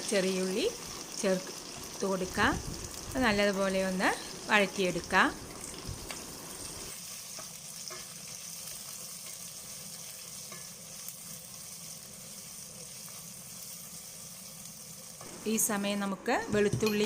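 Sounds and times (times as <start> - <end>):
shallots sizzling in oil: 0.0 - 16.4.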